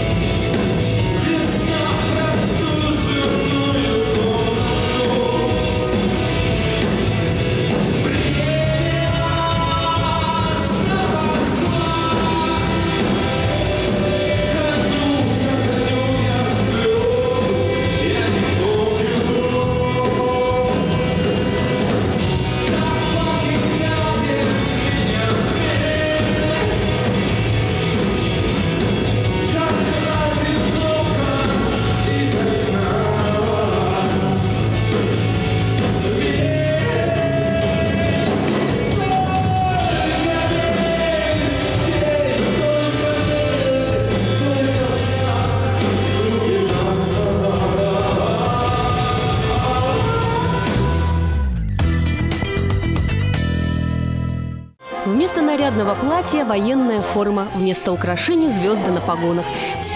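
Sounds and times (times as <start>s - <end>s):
rock band playing: 0.0s - 59.9s
man singing: 1.0s - 6.9s, 7.8s - 28.0s, 29.2s - 51.4s, 54.8s - 59.9s.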